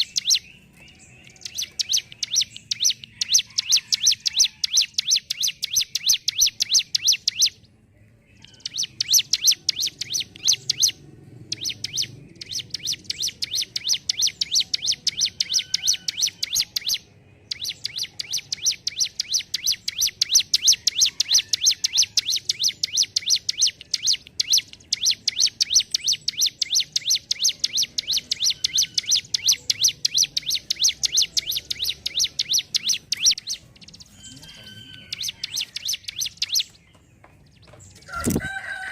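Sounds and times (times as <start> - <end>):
bird singing rapid sharp notes: 0.0 - 38.4.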